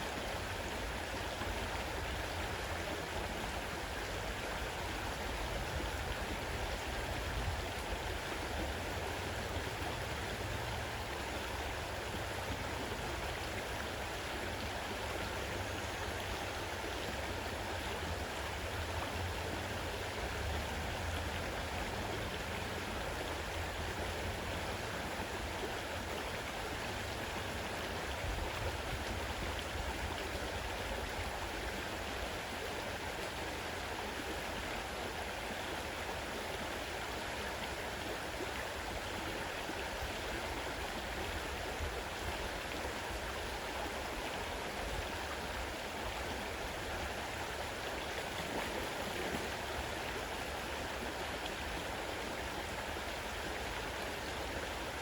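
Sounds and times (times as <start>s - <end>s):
river rushing over its bed: 0.0s - 55.0s.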